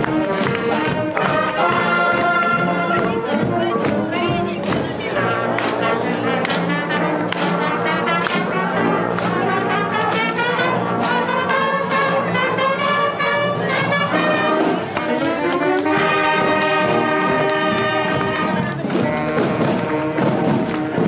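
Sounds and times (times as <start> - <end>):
marching band playing brass tune: 0.0 - 21.0.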